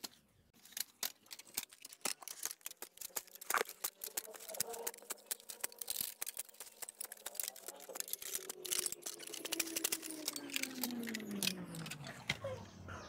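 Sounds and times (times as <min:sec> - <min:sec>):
digger crunching and scraping soil: 0:00.0 - 0:12.5.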